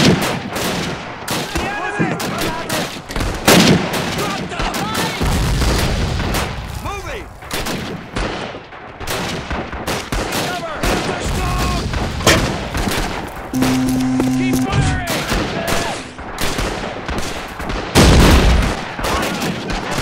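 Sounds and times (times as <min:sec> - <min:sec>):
rifle and machine-gun fire: 0:00.0 - 0:20.0.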